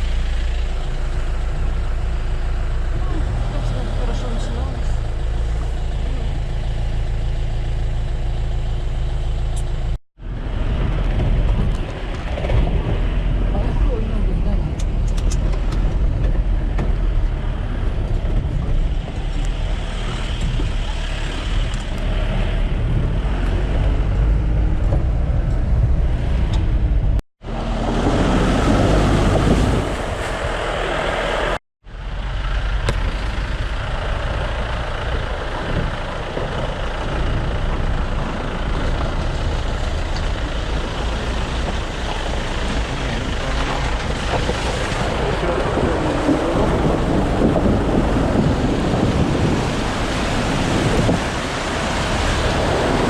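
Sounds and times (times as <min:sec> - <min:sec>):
off-road vehicle on dirt track: 0:00.0 - 0:53.0.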